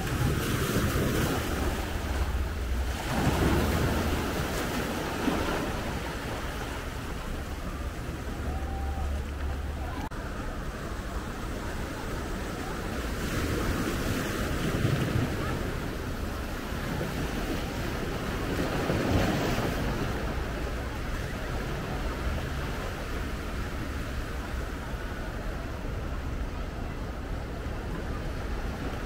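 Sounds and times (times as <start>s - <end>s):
small waves breaking on sand: 0.0s - 29.0s
wind buffeting microphone: 0.0s - 29.0s.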